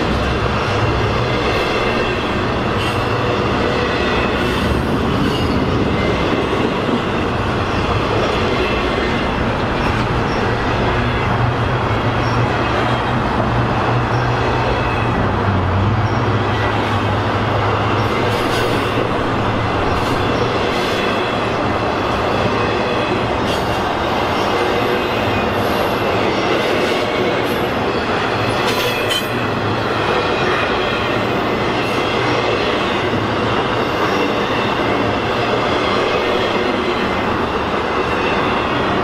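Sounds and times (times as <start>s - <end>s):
freight cars rolling on rails: 0.0s - 39.0s.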